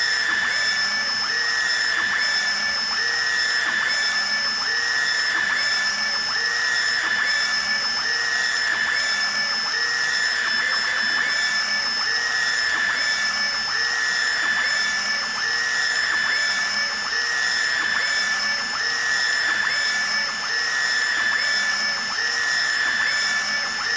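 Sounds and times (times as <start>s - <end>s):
printer carriage motor whine: 0.0s - 23.9s.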